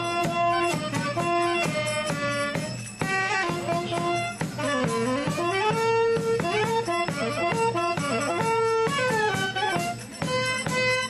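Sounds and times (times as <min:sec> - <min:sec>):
clarinet folk melody: 0:00.0 - 0:11.0.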